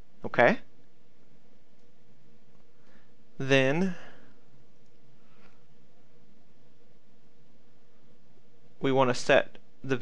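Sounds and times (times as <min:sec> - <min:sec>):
faint hum: 0:00.0 - 0:10.0
low hiss: 0:00.0 - 0:10.0.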